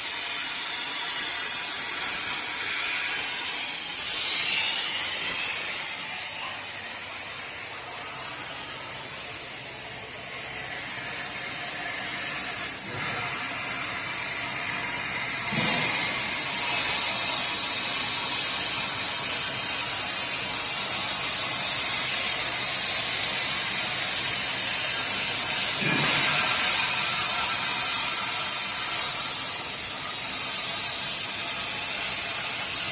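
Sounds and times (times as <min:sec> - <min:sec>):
plasma torch hissing: 0:00.0 - 0:32.9.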